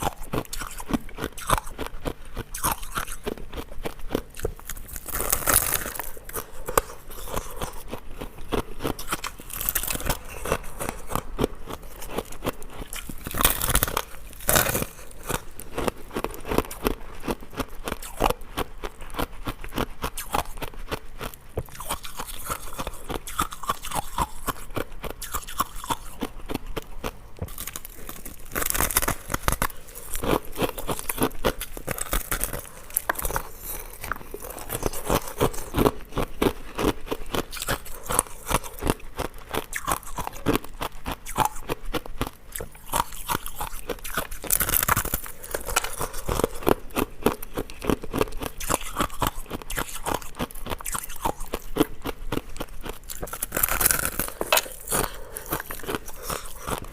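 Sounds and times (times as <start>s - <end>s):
ice cubes being chewed: 0.0s - 56.9s.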